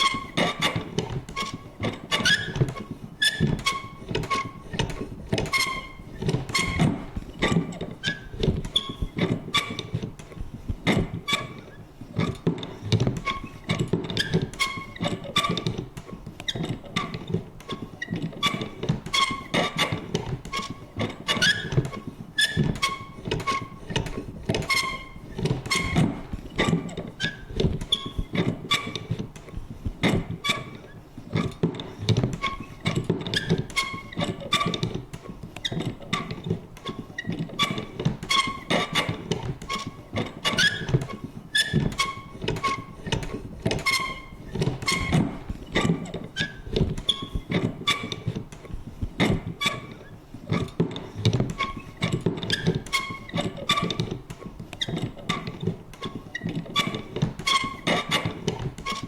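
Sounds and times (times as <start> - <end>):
paper punch clicking and thunking: 0.0 - 59.0
squeaky mechanism creaks: 0.0 - 59.0.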